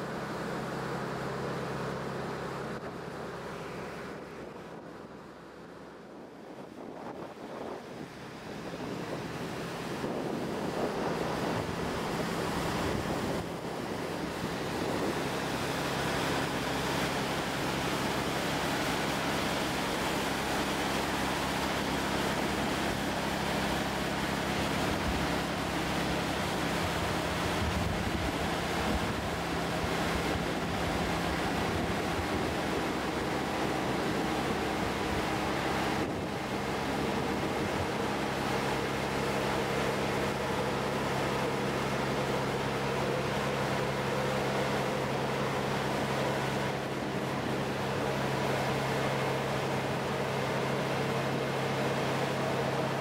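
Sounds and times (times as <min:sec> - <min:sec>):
propeller wash churning water: 0:00.0 - 0:53.0.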